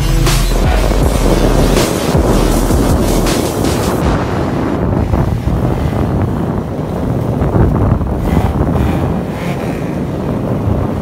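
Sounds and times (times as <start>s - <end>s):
car engine running: 0.0s - 10.4s
wind rumble on microphone: 0.0s - 11.0s.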